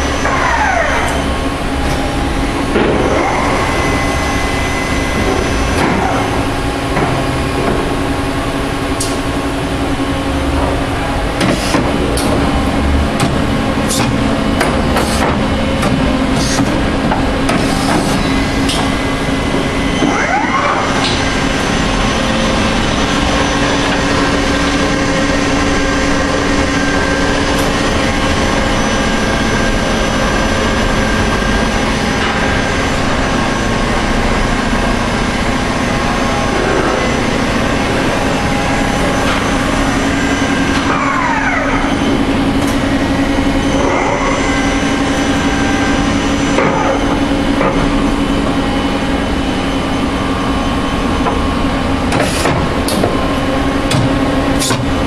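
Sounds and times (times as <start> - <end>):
machining center running: 0.0 - 55.0.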